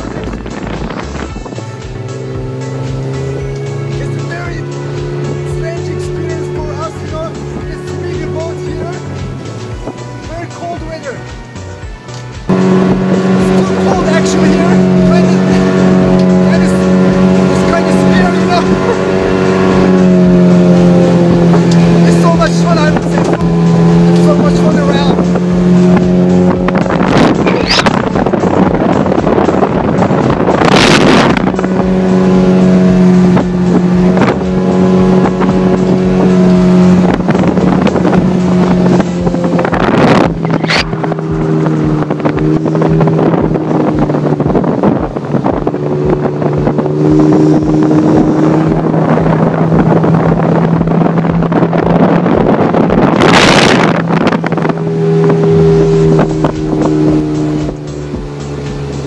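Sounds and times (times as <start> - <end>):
wind buffeting microphone: 0.0 - 11.2, 12.4 - 59.0
motorboat engine running: 0.0 - 59.0.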